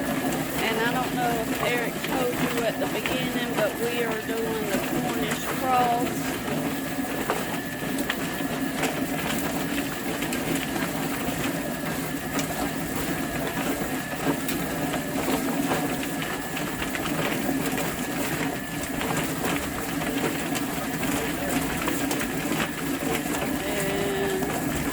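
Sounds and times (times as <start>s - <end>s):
birds tumbling and knocking: 0.0s - 24.9s
chicken plucker motor hum: 0.0s - 24.9s.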